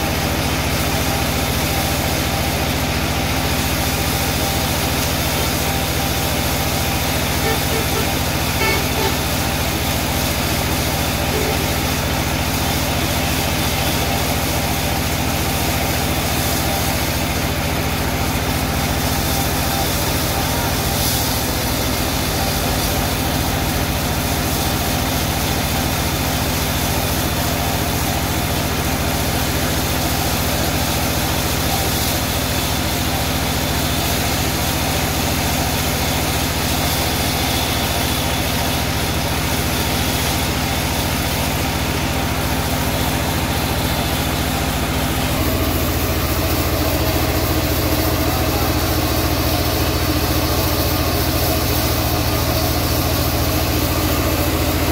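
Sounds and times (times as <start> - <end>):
portable sawmill running: 0.0 - 54.9.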